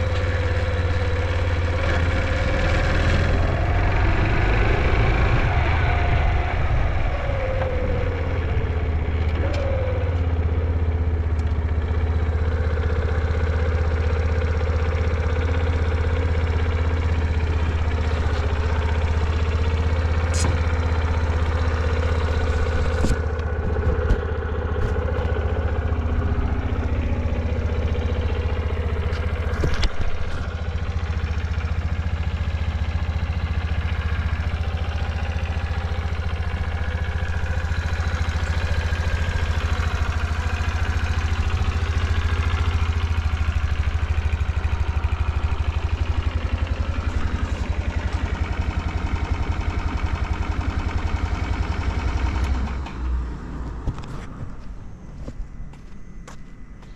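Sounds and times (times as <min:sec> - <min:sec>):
small engine running: 0:00.0 - 0:56.9.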